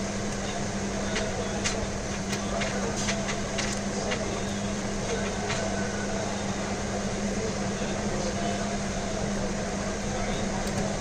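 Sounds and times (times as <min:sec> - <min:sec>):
air conditioning drone: 0:00.0 - 0:11.0.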